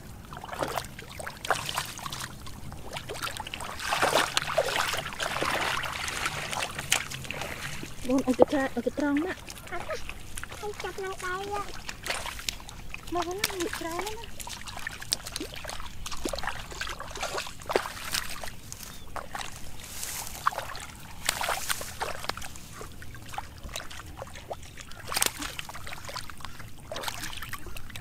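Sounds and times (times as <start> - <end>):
bare feet wading through water: 0.0 - 28.0
fish thrashing in shallow water: 0.0 - 28.0.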